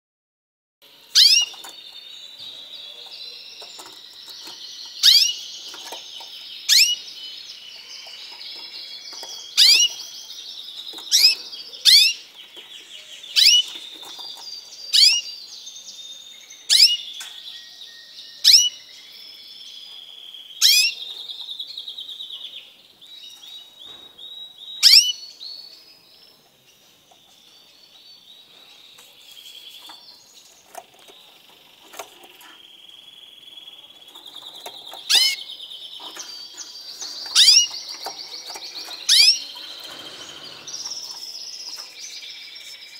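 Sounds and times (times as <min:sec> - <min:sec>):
canary warbling song: 0:00.8 - 0:42.9.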